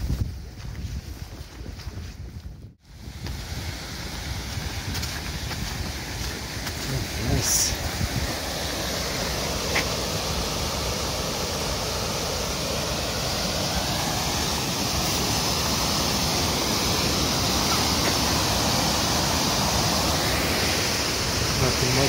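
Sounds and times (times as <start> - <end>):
steady rushing noise: 2.9 - 22.0.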